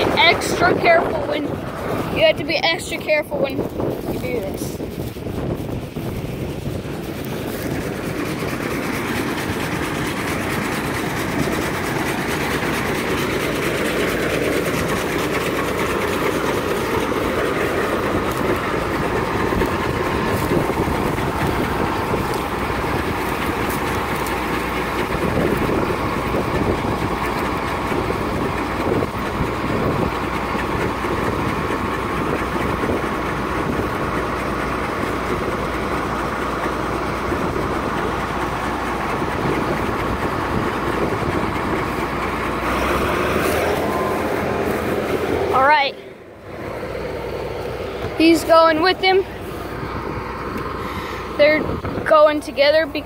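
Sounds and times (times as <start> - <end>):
combine harvester rattle and drone: 0.0 - 53.0.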